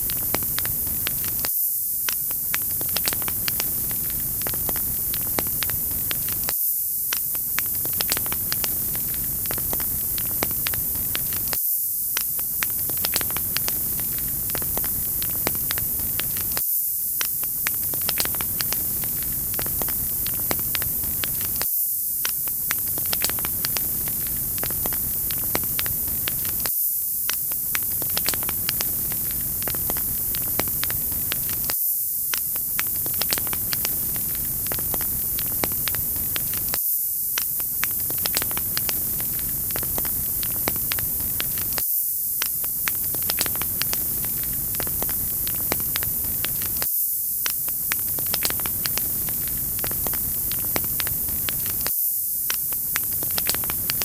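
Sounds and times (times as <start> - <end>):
wood fire crackling: 0.0 - 1.5, 2.1 - 6.5, 7.1 - 11.6, 12.2 - 16.6, 17.2 - 21.6, 22.2 - 36.8, 37.4 - 41.8, 42.4 - 51.9, 52.5 - 54.0.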